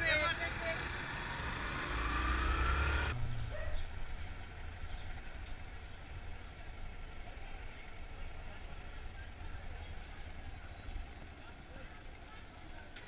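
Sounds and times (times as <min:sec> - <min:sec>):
motorcycle engine running: 0:00.0 - 0:12.2
street traffic: 0:00.0 - 0:13.0.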